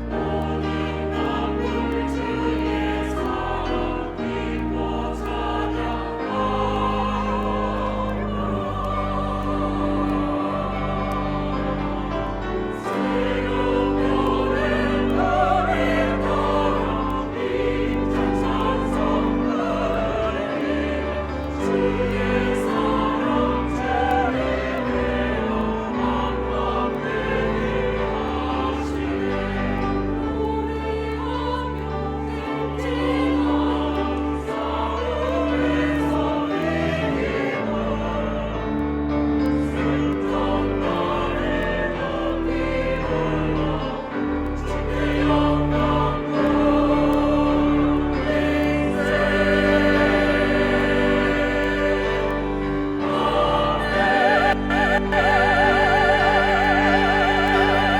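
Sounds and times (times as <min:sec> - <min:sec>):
choir singing a hymn: 0:00.0 - 0:57.9
instrumental accompaniment: 0:00.0 - 0:57.9.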